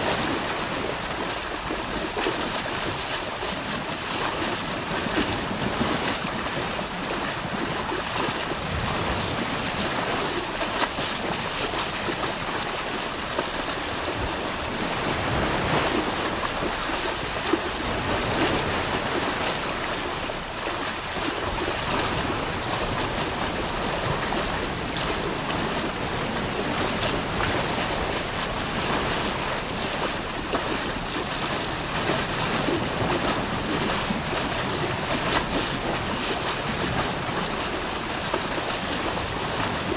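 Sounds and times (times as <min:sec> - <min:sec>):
river water pouring over weir: 0:00.0 - 0:39.9.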